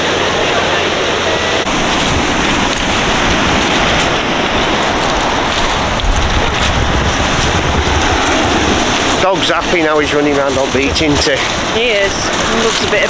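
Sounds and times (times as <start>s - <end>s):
wind buffeting microphone: 0.0s - 13.0s
surf breaking on shingle: 1.7s - 13.0s.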